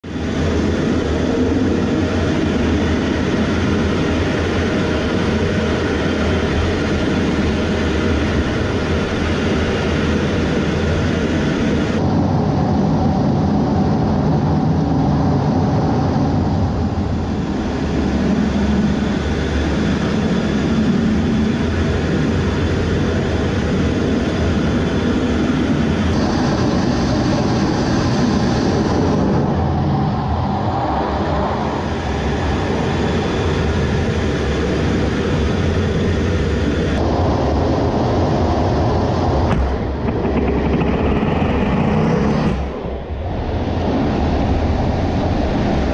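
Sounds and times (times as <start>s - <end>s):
jet engines rumbling with hiss: 0.0s - 45.9s.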